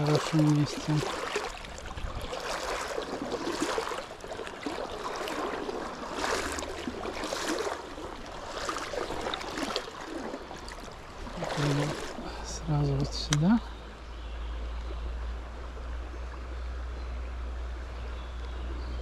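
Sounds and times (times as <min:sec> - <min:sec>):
small river rushing: 0:00.0 - 0:19.0.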